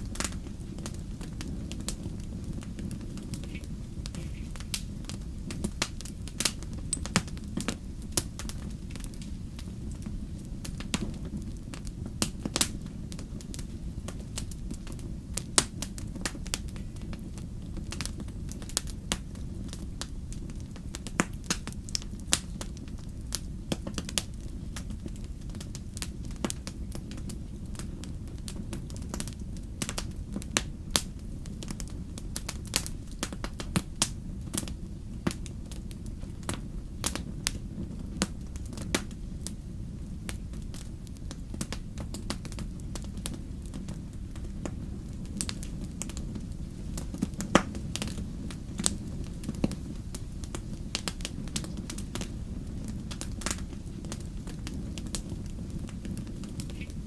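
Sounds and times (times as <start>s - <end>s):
burning logs crackling and popping: 0.0s - 57.0s
fire flames rumbling: 0.0s - 57.0s.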